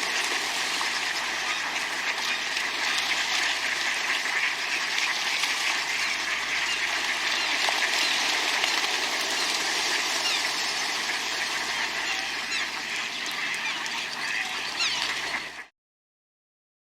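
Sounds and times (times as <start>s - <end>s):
ducks quacking: 0.0s - 15.7s
ducks splashing in water: 0.0s - 15.7s.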